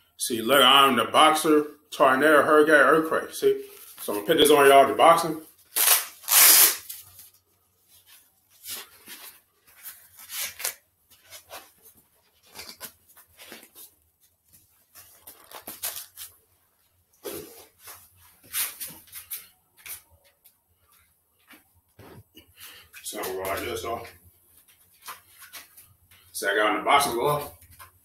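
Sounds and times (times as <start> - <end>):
boxing glove rustling and scraping: 3.6 - 4.6, 5.4 - 28.0.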